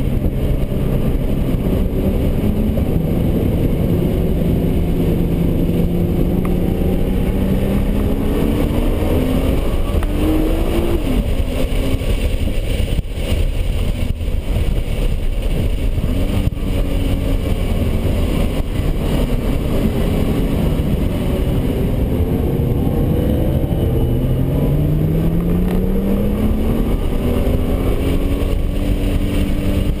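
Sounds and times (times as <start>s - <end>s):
car engine accelerating: 0.0s - 30.0s
road and wind rumble: 0.0s - 30.0s.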